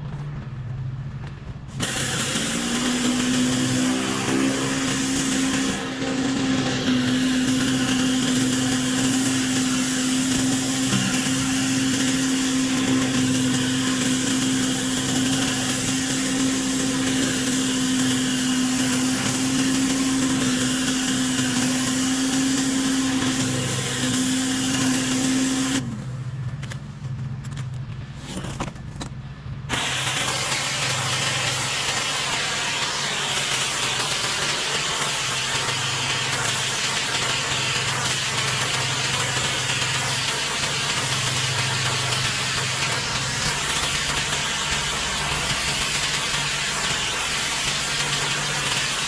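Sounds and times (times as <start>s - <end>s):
pressure washer engine hum: 0.0s - 28.3s, 29.5s - 49.0s
high-pressure spray hissing: 1.7s - 25.8s, 29.7s - 49.0s.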